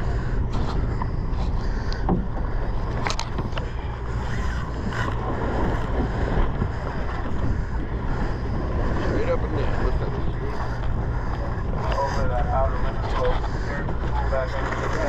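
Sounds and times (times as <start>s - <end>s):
boat engine rumble: 0.0s - 15.0s
sea: 0.0s - 15.0s
wind buffeting microphone: 0.0s - 15.0s.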